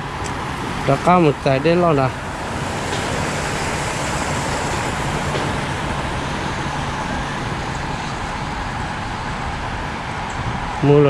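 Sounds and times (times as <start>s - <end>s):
road traffic hiss: 0.0s - 11.0s.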